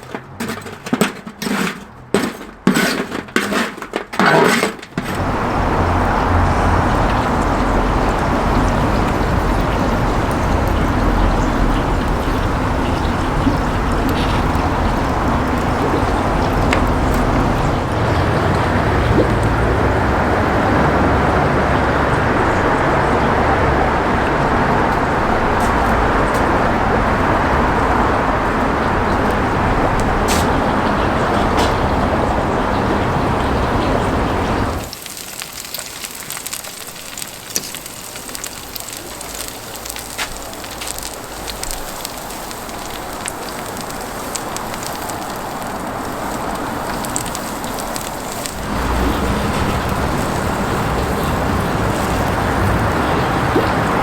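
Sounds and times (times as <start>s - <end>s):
charcoal fire crackling: 0.0s - 21.6s, 28.3s - 54.0s
loud steady rushing noise: 5.0s - 34.9s, 40.0s - 54.0s.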